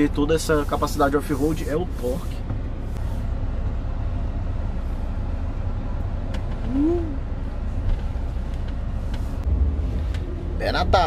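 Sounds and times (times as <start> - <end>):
car cabin engine rumble: 0.0 - 11.0.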